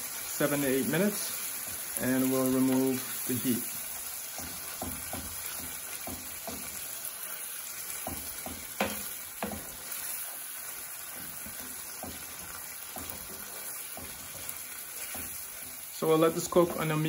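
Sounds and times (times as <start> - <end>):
meat sauce sizzling in skillet: 0.0 - 17.0
wooden spoon stirring and scraping: 1.1 - 17.0.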